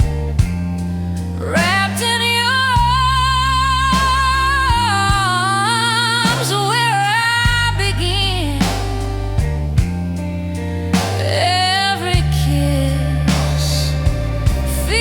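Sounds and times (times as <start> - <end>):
bass and band accompaniment: 0.0 - 15.0
person singing with vibrato: 1.0 - 9.2, 11.1 - 15.0.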